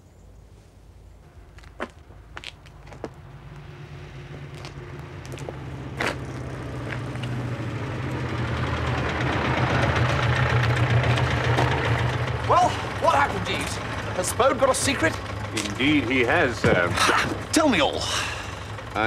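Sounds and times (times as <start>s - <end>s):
car engine approaching: 1.2s - 19.0s.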